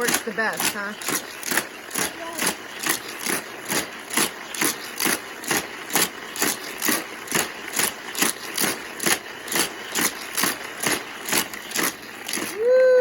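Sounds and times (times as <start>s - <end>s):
toy track booster whooshing: 0.0s - 13.0s.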